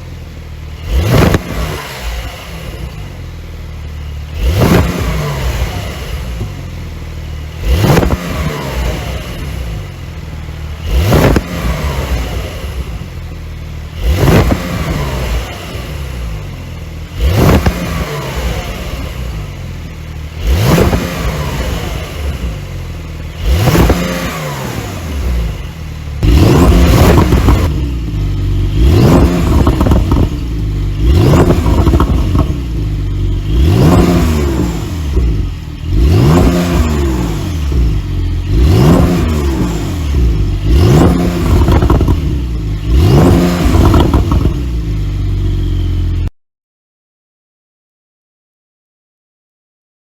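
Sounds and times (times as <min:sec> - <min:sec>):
car engine revving: 0:00.0 - 0:46.3.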